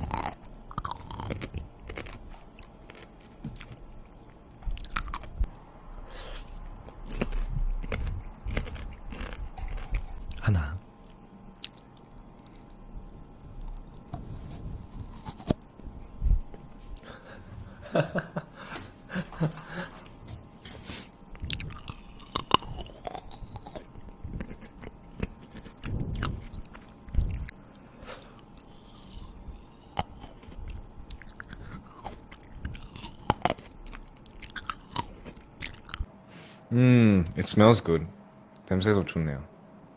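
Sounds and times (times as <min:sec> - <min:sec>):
person chewing crunchy food: 0:00.0 - 0:17.5, 0:20.8 - 0:36.1.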